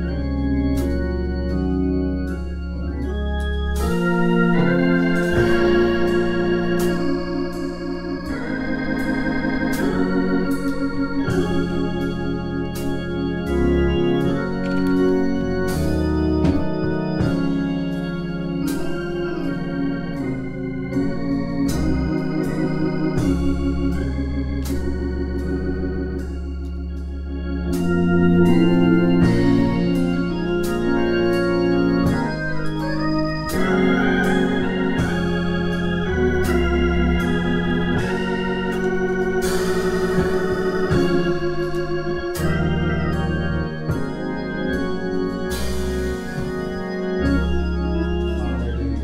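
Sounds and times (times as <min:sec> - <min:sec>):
organ playing slow chords: 0:00.0 - 0:49.0.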